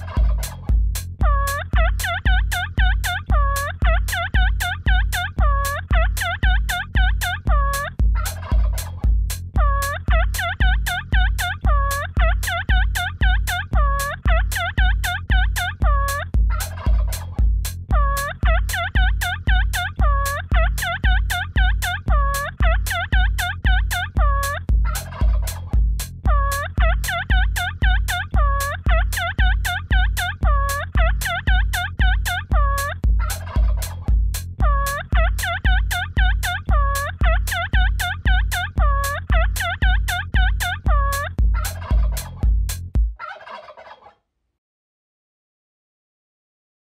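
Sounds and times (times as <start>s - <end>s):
electronic dance music: 0.0s - 9.0s, 9.6s - 42.9s
turkey gobbles: 0.0s - 25.7s, 26.3s - 42.5s, 43.2s - 44.2s
deep kick drum: 0.0s - 43.2s.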